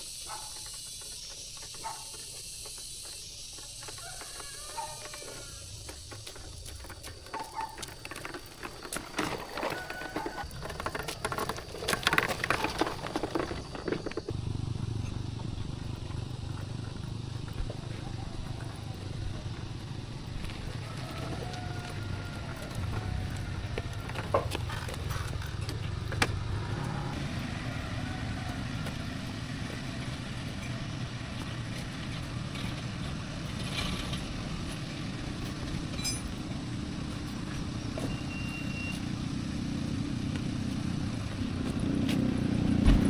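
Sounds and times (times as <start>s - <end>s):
motor vehicle engine rumble: 0.0s - 43.0s.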